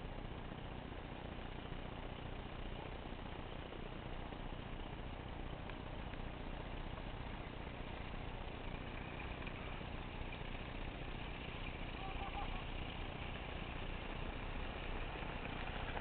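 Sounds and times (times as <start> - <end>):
distant diesel locomotive rumble: 0.0 - 16.0.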